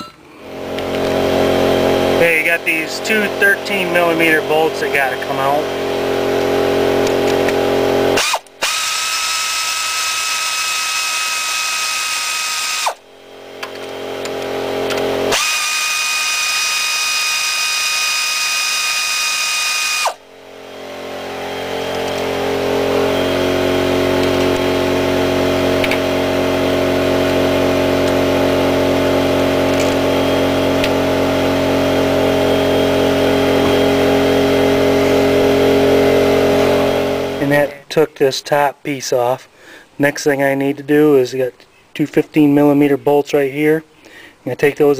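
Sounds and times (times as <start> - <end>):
power tool whine: 0.0 - 37.6
low machine hum: 0.0 - 38.8.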